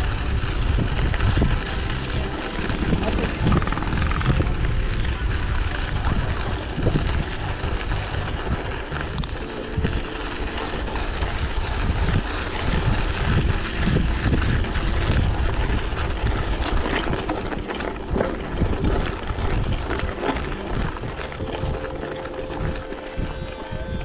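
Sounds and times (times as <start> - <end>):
bicycle rattling over rough path: 0.0 - 24.0
wind noise on microphone: 0.0 - 24.0.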